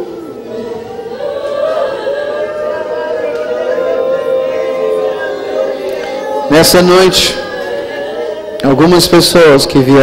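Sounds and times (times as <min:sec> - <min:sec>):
group singing worship music: 0:00.0 - 0:10.0.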